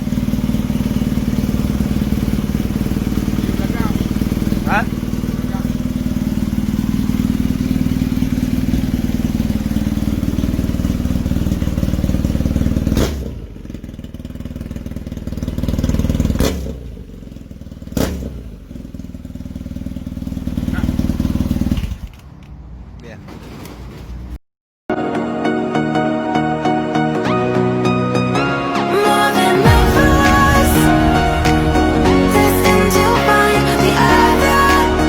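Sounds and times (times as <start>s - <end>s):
motorcycle engine revving: 0.0s - 22.2s, 29.0s - 35.0s.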